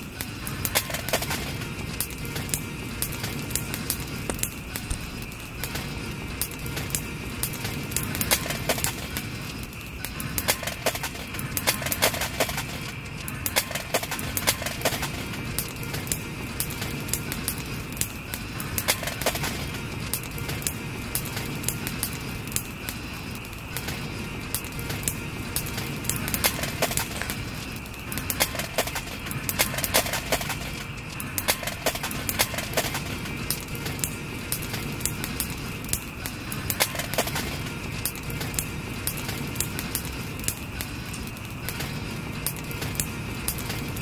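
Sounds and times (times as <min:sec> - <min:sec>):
firewood crackling and popping: 0:00.0 - 0:44.0
frogs croaking: 0:00.0 - 0:44.0.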